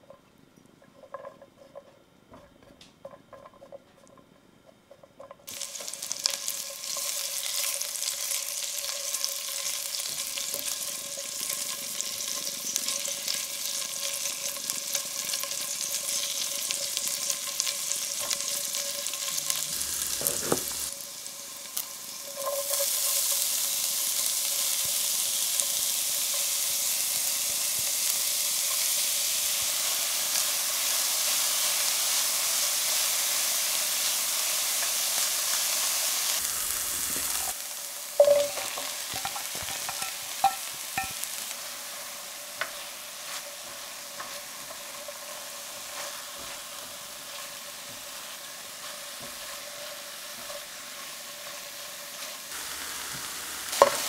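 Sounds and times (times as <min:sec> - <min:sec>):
meat sizzling in a pan: 0:05.5 - 0:54.0.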